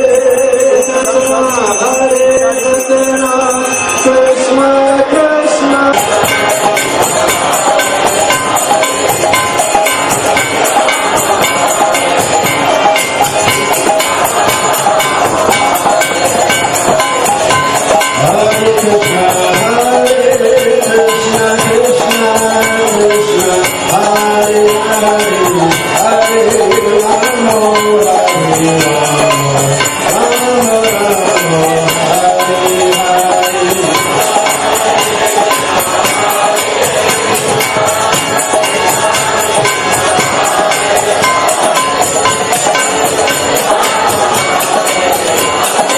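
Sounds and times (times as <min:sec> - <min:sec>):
chanted melody: 0:00.0 - 0:45.9
jingling percussion: 0:00.0 - 0:45.9.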